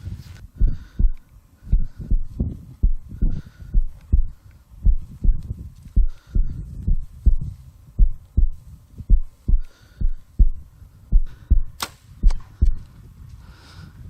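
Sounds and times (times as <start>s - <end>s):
heartbeat thumps: 0.5s - 12.9s.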